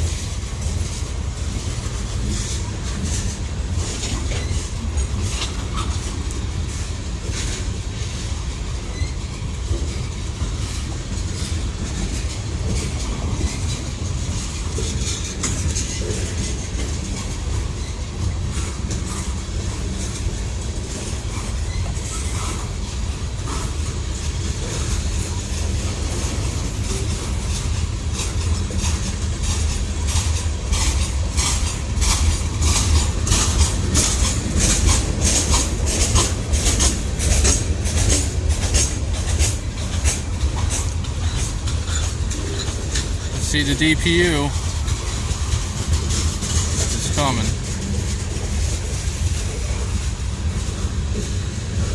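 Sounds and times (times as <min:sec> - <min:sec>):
freight train cars rumbling: 0:00.0 - 0:51.9
wheels clicking over rail joints: 0:00.0 - 0:51.9.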